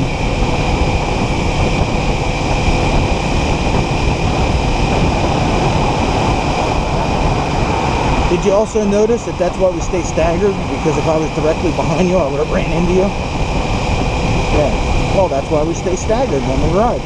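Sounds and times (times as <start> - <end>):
motorcycle engine cruising: 0.0 - 17.0
wind rush over helmet microphone: 0.0 - 17.0.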